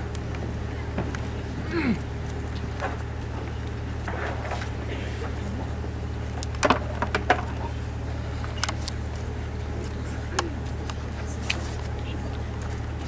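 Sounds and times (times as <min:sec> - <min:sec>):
faint crowd murmur: 0:00.0 - 0:04.1, 0:04.7 - 0:06.4, 0:07.1 - 0:13.0.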